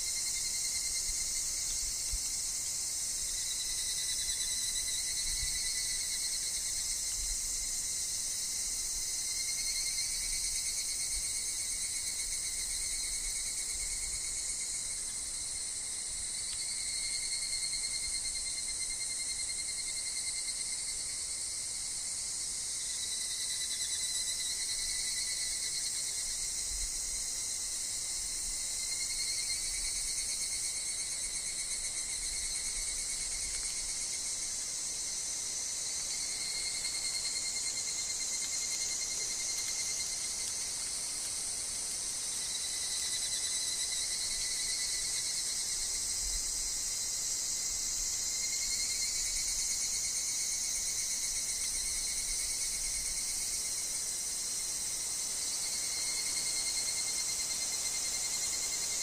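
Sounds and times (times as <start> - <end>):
cicadas and insects chorus: 0.0 - 59.0.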